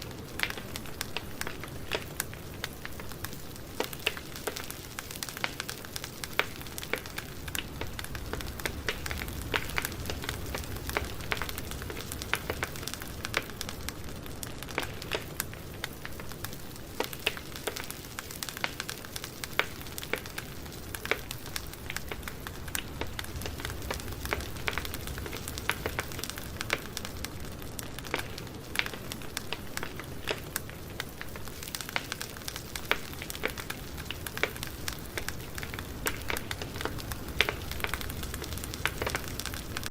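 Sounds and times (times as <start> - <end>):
low rush of flame: 0.0 - 39.9
wood crackling and popping: 0.0 - 39.9.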